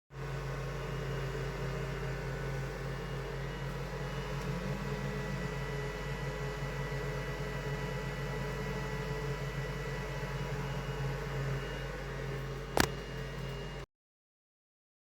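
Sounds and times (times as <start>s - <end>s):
small machine humming: 0.2s - 13.8s.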